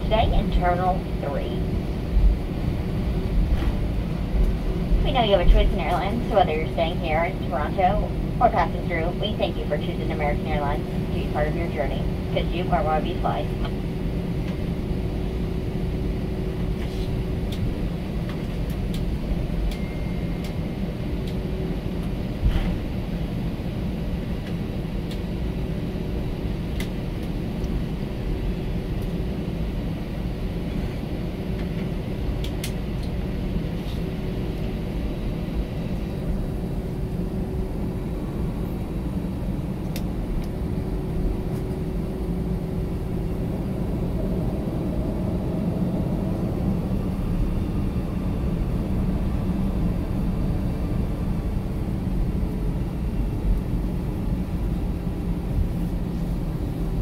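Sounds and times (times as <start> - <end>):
faint engine whine: 0.0 - 57.0
jet engine cabin rumble: 0.0 - 57.0.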